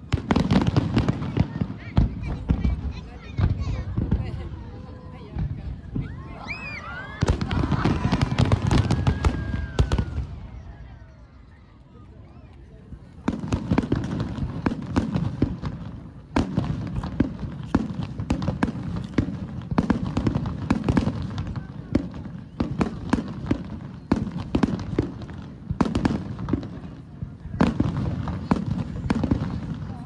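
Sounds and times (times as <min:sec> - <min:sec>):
heavy fireworks booms: 0:00.0 - 0:11.0, 0:12.9 - 0:30.0
fireworks bursts and crackling: 0:00.0 - 0:30.0.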